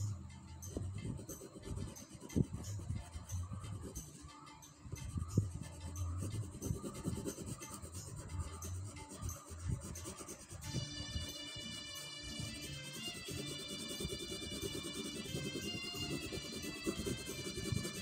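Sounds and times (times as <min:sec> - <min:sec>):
pencil scratching on paper: 0:00.8 - 0:04.2, 0:05.4 - 0:18.0.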